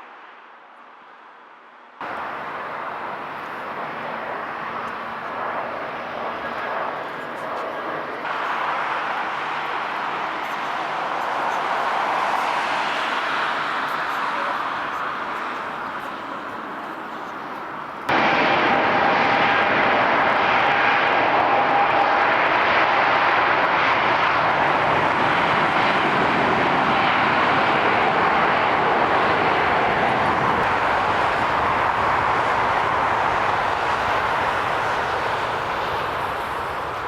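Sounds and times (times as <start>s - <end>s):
jet engine roar: 2.0s - 37.0s.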